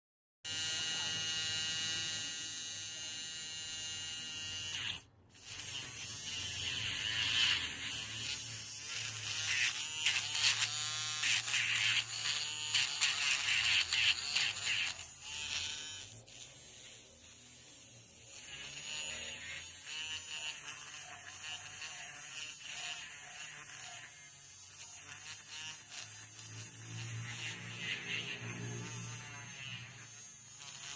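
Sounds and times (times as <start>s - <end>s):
electric nail file whirring: 0.5s - 30.9s.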